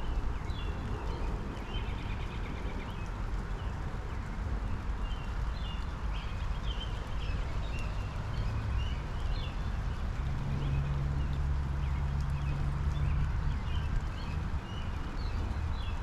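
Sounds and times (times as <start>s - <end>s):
small birds chirping: 0.0s - 16.0s
steady rain falling: 0.0s - 16.0s.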